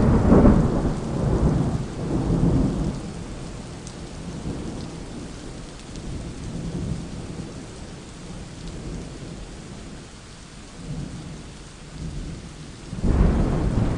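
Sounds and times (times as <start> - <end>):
low rolling thunder: 0.0 - 10.1, 10.8 - 13.9
steady rain: 0.0 - 13.9.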